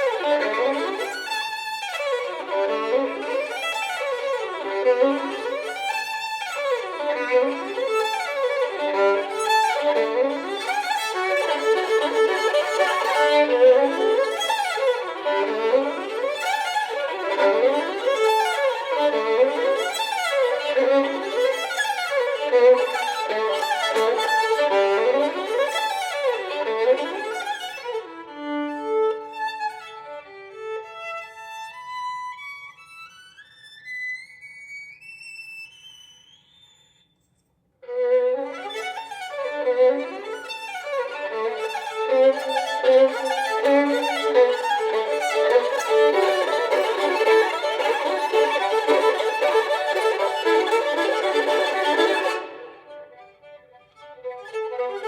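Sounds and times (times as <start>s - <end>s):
solo violin playing: 0.0s - 36.4s, 37.8s - 55.0s.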